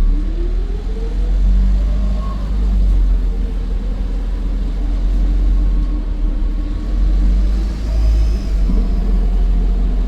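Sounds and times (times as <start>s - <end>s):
bus diesel engine rumble: 0.0s - 10.0s
faint turbo whine: 0.0s - 10.0s.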